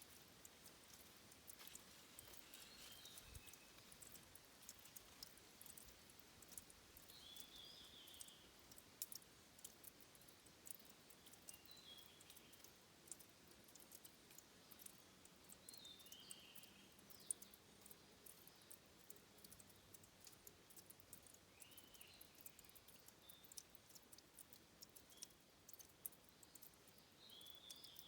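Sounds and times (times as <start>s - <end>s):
water dripping: 0.0s - 28.0s.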